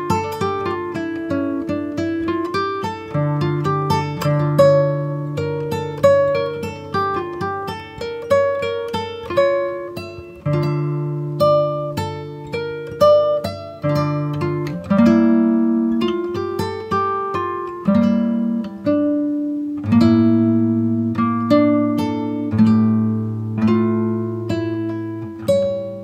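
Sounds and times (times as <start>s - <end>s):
acoustic guitar picking: 0.0s - 26.0s.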